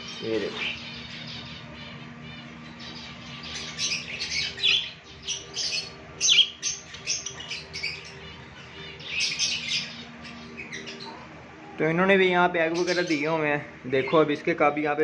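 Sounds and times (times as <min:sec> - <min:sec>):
budgerigars chirping: 0:00.0 - 0:14.7
faint steady hum: 0:00.0 - 0:15.0.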